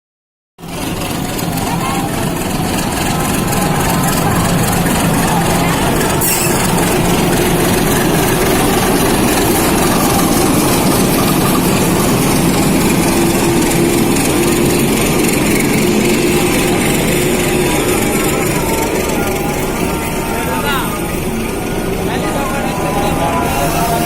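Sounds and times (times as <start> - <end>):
diesel locomotive engine droning: 0.6 - 24.0.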